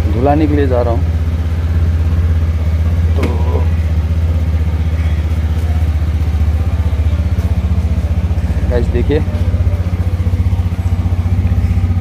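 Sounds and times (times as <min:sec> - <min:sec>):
motor scooter engine idling: 0:00.0 - 0:12.0.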